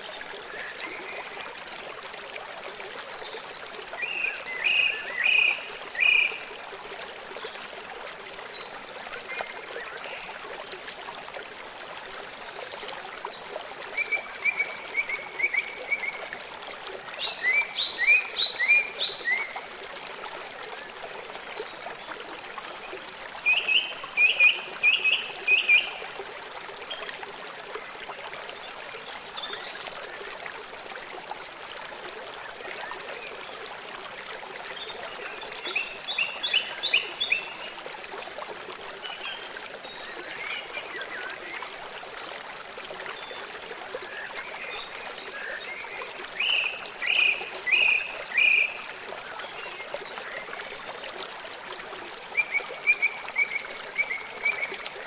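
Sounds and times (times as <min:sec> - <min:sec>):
running water stream: 0:00.0 - 0:55.0.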